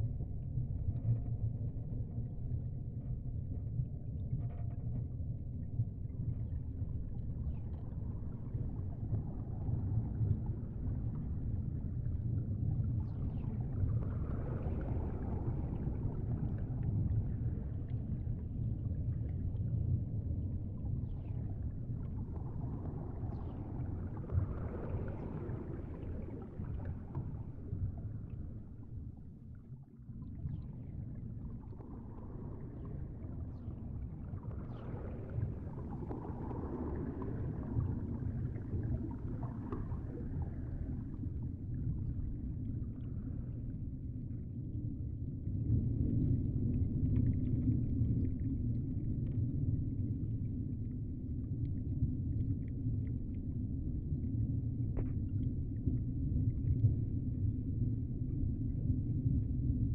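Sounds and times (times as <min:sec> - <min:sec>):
underwater water rumble: 0:00.0 - 0:59.9.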